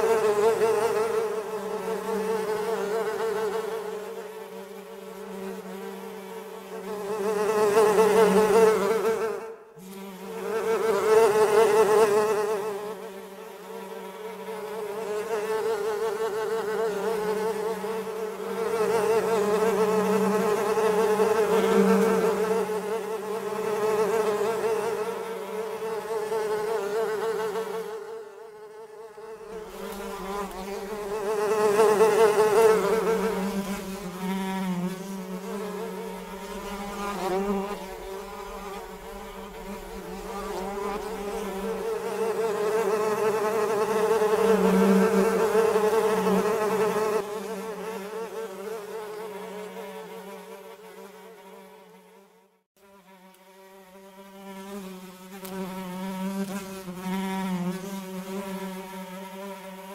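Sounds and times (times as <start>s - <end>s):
flies buzzing: 0.0s - 59.9s.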